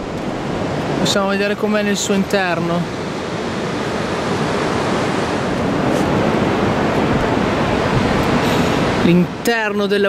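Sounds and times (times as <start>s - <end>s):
ocean surf rushing: 0.0s - 10.0s.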